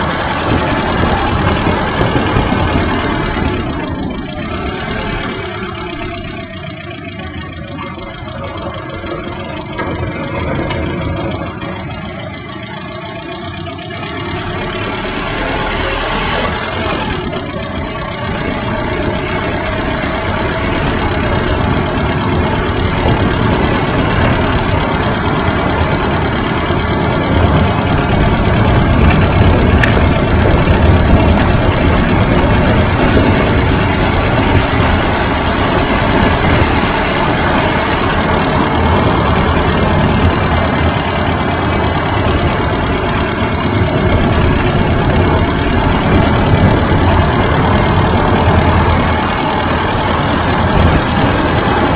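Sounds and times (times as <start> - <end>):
bicycle road vibration: 0.0 - 51.9
wind buffeting microphone: 0.0 - 51.9.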